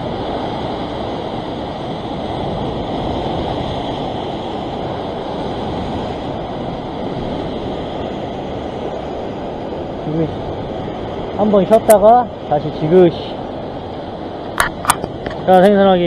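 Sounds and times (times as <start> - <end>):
ocean surf washing against rocks: 0.0 - 16.0.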